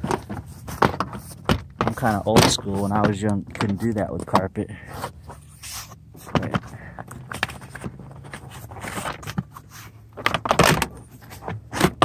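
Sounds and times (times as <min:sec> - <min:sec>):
plastic and metal rattling: 0:00.0 - 0:05.4, 0:06.1 - 0:12.0.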